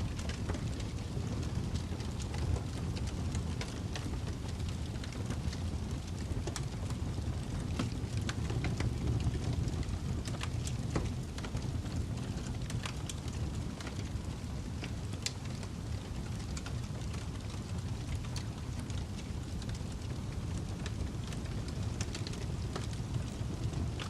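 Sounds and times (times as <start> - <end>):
fire burning rumble: 0.0 - 24.0.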